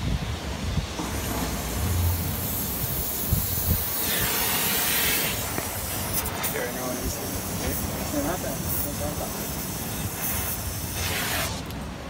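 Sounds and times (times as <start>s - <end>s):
gas torch hissing: 0.5s - 11.8s.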